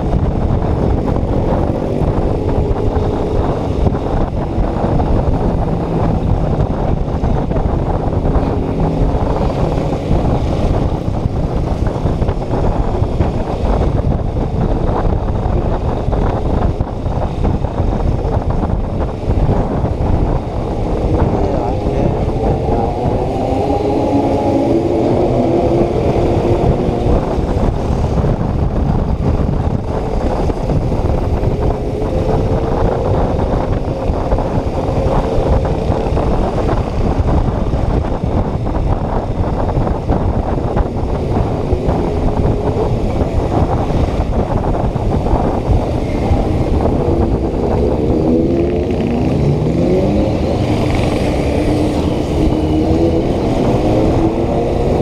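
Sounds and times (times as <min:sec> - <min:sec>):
loud steady rushing noise: 0:00.0 - 0:55.0
motorcycle engine revving: 0:00.0 - 0:55.0.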